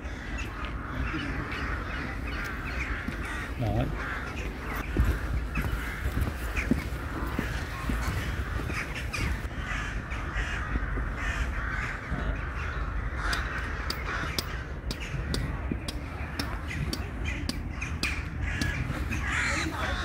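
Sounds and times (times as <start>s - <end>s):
crows cawing: 0.0s - 20.0s.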